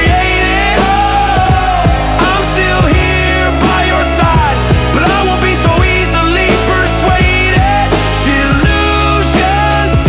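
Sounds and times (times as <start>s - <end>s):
sliding lead guitar line: 0.0s - 10.0s
steady drum beat: 0.0s - 10.0s.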